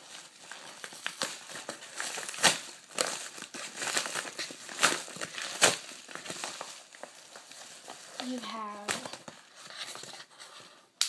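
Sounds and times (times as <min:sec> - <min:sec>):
packaging crinkling: 0:00.0 - 0:10.3.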